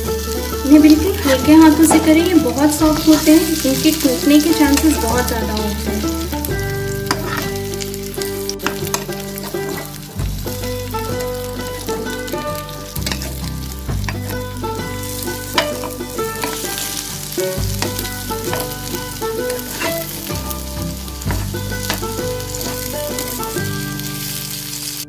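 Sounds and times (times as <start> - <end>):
dumplings sizzling in oil: 0.0 - 25.0
metal spatula scraping pan: 0.2 - 23.8.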